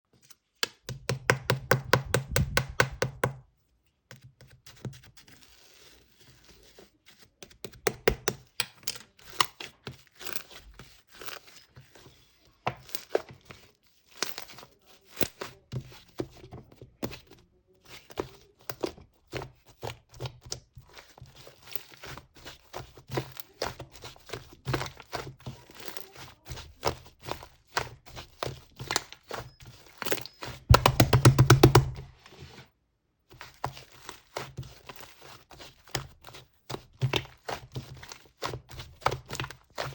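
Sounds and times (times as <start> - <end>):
slime clicking and squishing: 4.2 - 32.1, 33.3 - 39.9.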